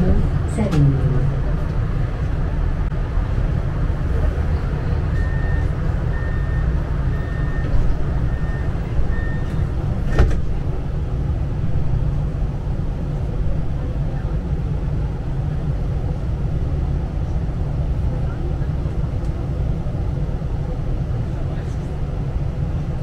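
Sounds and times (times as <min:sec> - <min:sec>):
tram interior rumble: 0:00.0 - 0:23.0.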